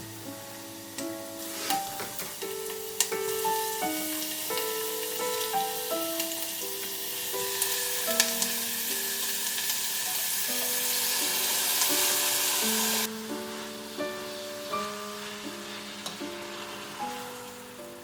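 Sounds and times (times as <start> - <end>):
food sizzling in a pan: 0.0 - 18.0
soft instrumental music: 0.0 - 18.0.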